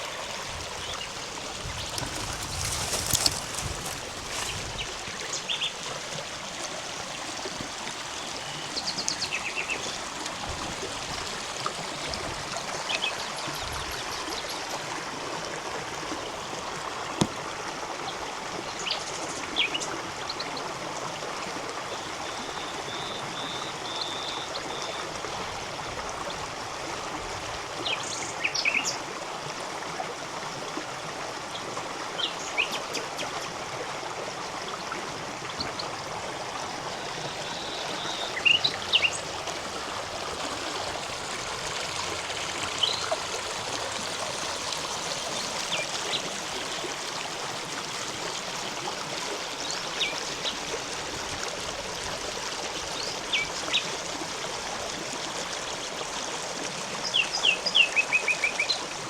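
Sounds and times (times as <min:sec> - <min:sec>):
river running over stones: 0:00.0 - 0:59.0.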